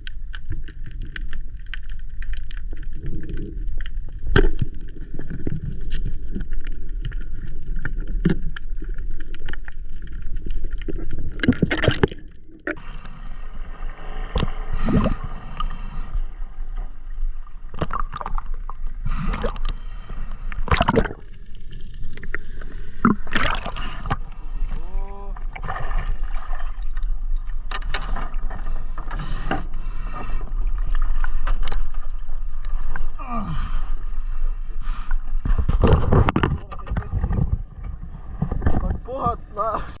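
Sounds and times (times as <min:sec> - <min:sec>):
water sloshing and gurgling: 0:00.0 - 0:40.0.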